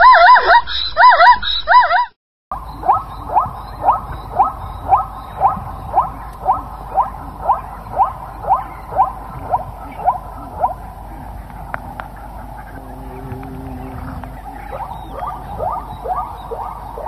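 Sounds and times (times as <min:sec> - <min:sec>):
zebra barking: 0:02.9 - 0:17.0.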